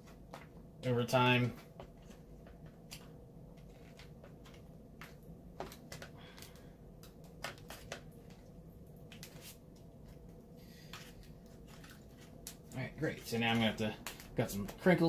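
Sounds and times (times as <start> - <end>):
steady low hum: 0.0 - 15.0
vinyl film clicks and crinkles: 1.7 - 15.0.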